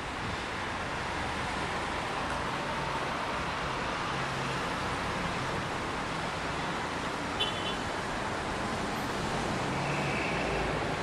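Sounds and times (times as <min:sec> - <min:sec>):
street traffic hiss: 0:00.0 - 0:11.0.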